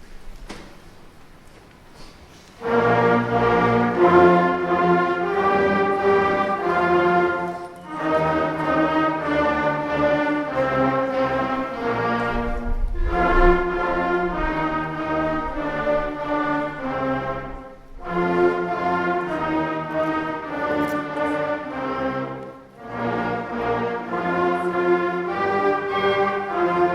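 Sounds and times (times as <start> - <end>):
wind and brass band playing: 2.6 - 26.9.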